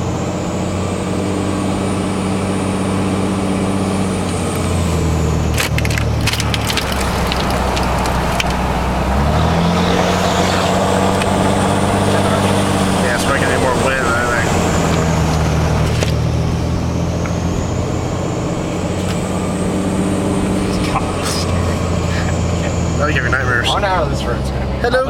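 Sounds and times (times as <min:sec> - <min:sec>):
exhaust drone: 0:00.0 - 0:25.0
turbocharger whistling: 0:00.0 - 0:25.0.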